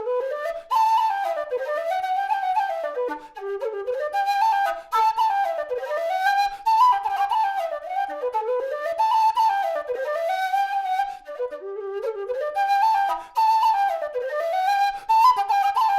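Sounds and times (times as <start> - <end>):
low whistle solo melody: 0.0 - 15.9.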